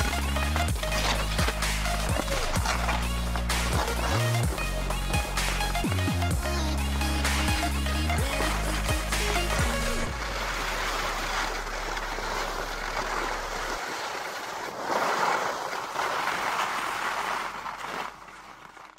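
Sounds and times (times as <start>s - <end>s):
skis sliding over snow: 0.0s - 18.9s.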